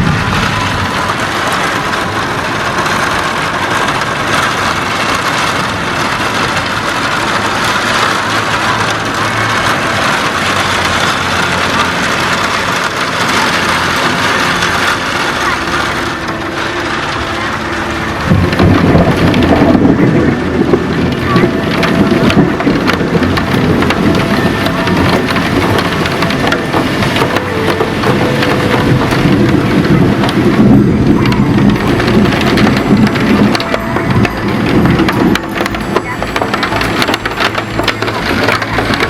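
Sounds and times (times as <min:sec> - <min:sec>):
heavy rain falling: 0:00.0 - 0:39.0
low rumble: 0:00.0 - 0:39.0.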